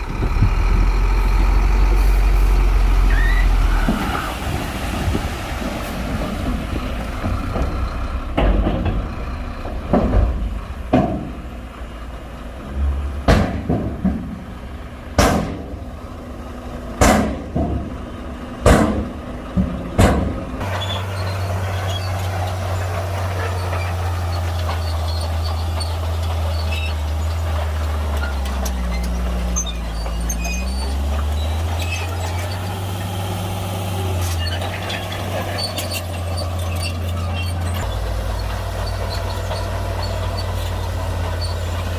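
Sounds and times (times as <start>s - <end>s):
diesel engine low drone: 0.0s - 41.9s.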